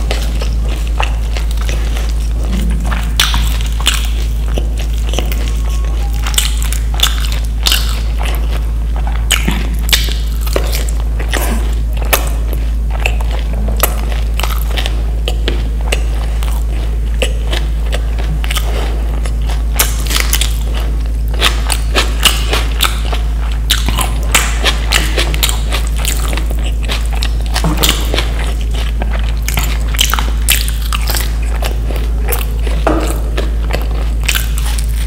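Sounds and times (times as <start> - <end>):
chewing and biting food: 0.0 - 35.0
steady low hum: 0.0 - 35.0.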